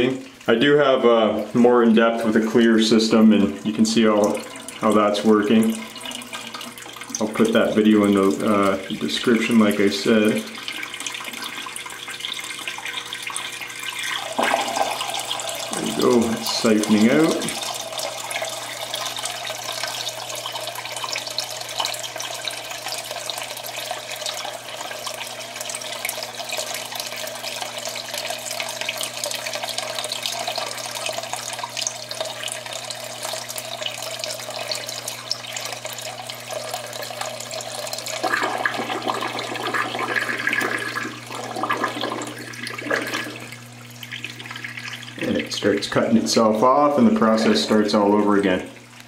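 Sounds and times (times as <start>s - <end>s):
water draining through siphon: 0.0s - 49.0s
water pump hum: 0.0s - 49.0s.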